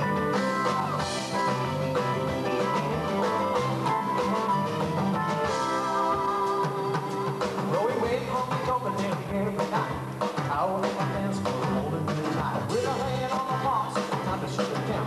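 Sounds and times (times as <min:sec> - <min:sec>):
electric guitar: 0:00.0 - 0:15.0
live band playing: 0:00.0 - 0:15.0.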